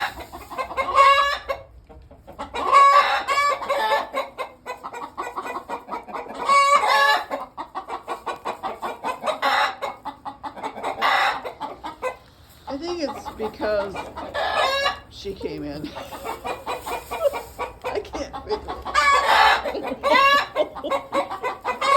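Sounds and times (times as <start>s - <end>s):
chickens clucking rapidly: 0.0s - 21.9s
chickens squawking: 0.0s - 21.9s.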